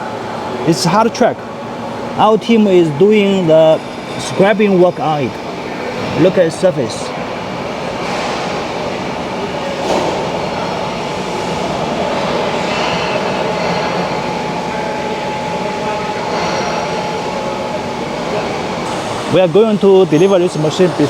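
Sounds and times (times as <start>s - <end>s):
machine shop noise: 0.0s - 21.0s
machinery whine: 0.0s - 21.0s.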